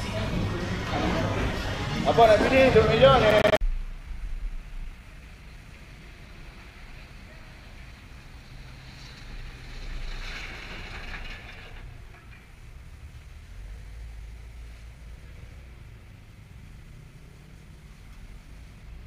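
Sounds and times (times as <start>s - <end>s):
wind rumbling on microphone: 3.6s - 19.0s.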